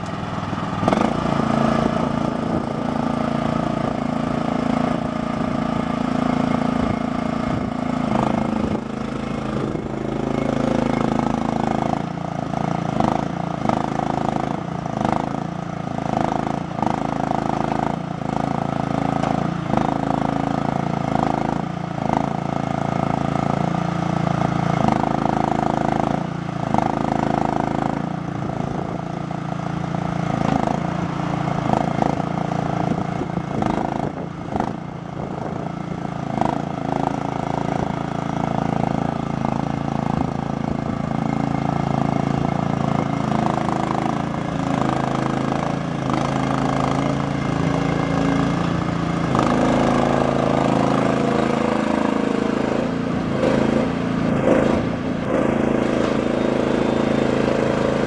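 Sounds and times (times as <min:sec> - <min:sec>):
mini excavator engine running: 0:00.0 - 0:58.0.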